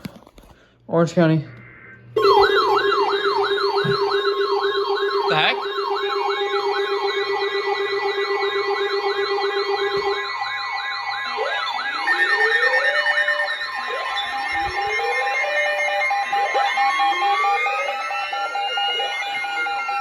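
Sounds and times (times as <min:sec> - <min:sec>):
steady siren tones: 0:01.1 - 0:20.0
electronic siren yelp: 0:01.3 - 0:20.0
rising siren wails: 0:01.4 - 0:20.0.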